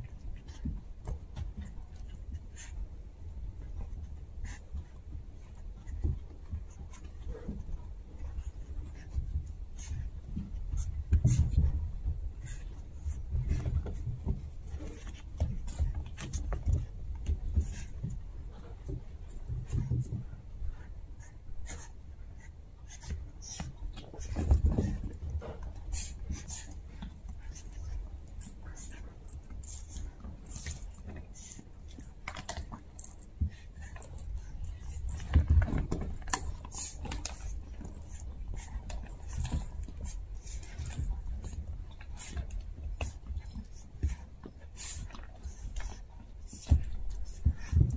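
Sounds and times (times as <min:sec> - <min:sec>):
plush and rope toys rustling: 0:00.0 - 0:47.9
puppies scuffling on carpet: 0:00.0 - 0:47.9.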